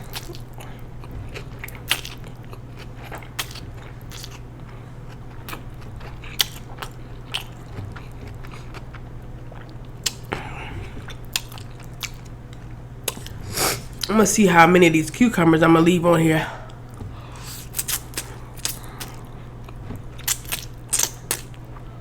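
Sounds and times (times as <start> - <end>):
chewing food: 0.0 - 14.2, 16.7 - 22.0.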